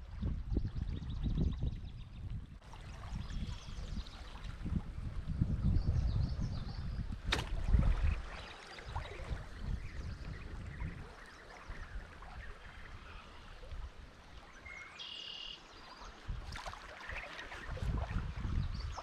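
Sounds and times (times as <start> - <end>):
wind gusting on microphone: 0.0 - 14.2, 17.5 - 19.0
faint creek water: 0.0 - 19.0.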